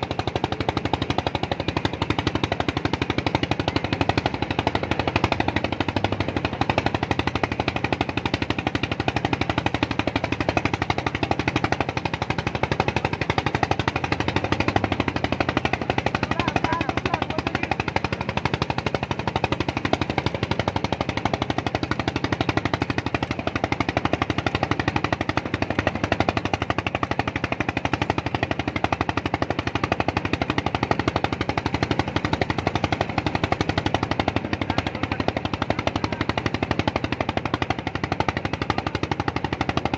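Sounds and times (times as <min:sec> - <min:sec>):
small engine knocking: 0:00.0 - 0:39.9.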